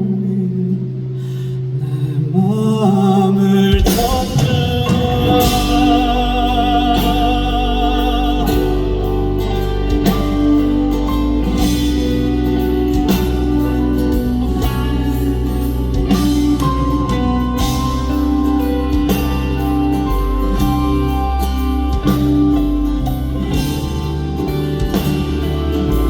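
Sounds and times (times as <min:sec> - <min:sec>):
live band music: 0:03.7 - 0:26.0.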